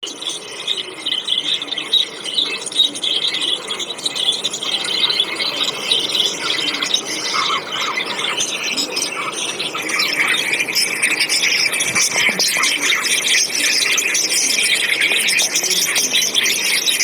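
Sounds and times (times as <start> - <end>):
flock of small birds chirping: 0.0 - 17.0.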